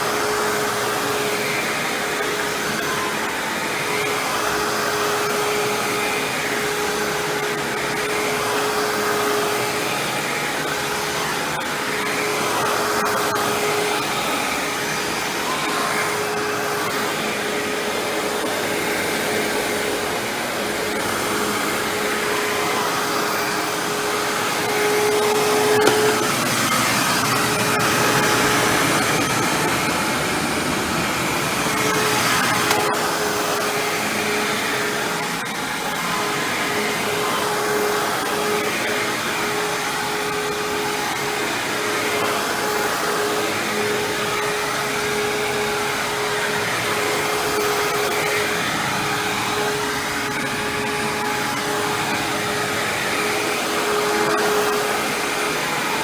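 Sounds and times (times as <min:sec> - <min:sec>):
upright vacuum running: 0:00.0 - 0:56.0.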